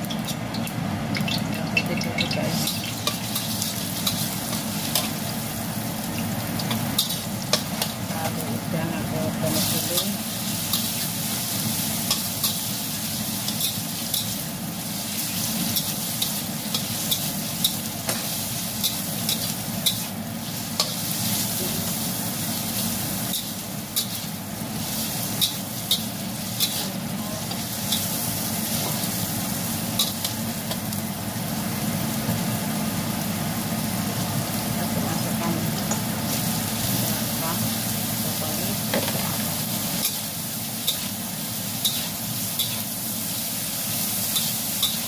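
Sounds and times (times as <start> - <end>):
food sizzling in hot oil: 0.0 - 45.0
spatula scraping wok: 2.4 - 30.9, 35.0 - 45.0.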